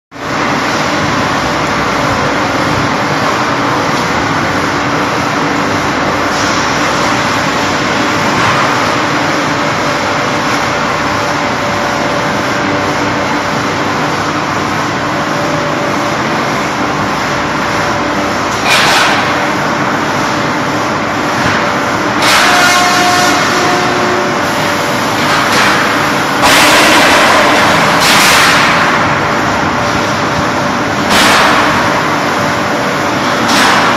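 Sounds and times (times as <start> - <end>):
machinery droning: 0.1 - 33.9.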